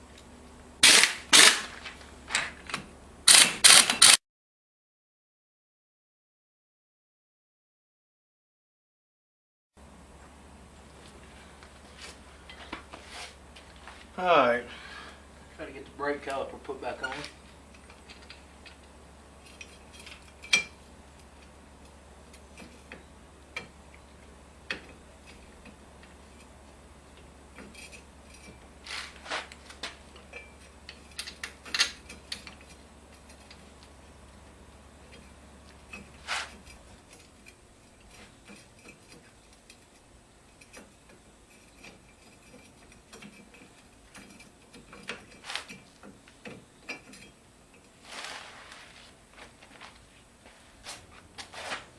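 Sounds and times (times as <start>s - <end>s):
low steady hum: 0.0s - 3.8s, 9.8s - 51.9s.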